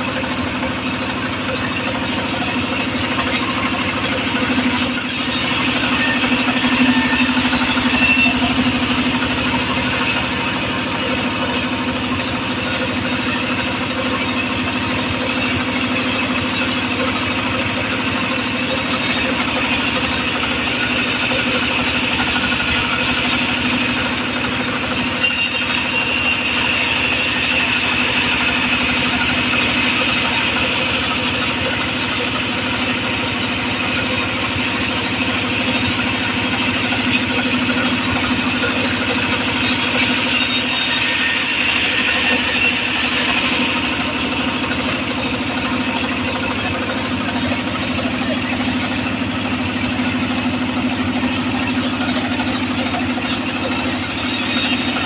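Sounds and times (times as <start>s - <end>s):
circular saw engine running: 0.0s - 55.0s.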